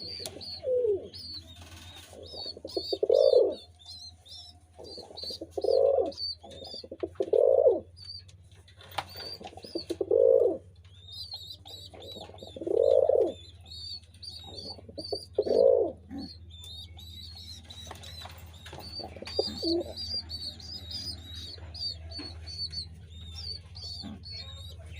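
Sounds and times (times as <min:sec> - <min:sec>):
high bird chirping: 0:00.0 - 0:08.3, 0:09.0 - 0:24.9
pigeons cooing: 0:00.0 - 0:08.3, 0:08.9 - 0:24.9.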